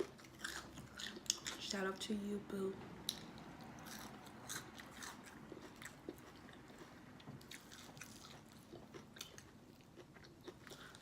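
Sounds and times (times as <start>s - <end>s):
person chewing crunchy food: 0.0s - 1.8s, 3.1s - 11.0s.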